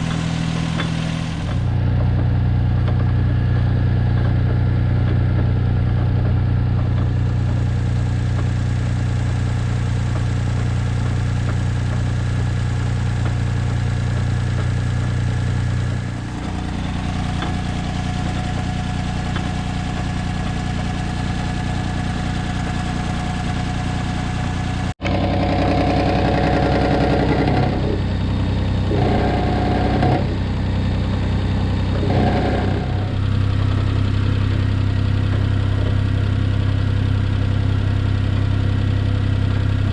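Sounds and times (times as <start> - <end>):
small car engine running: 0.0 - 39.9.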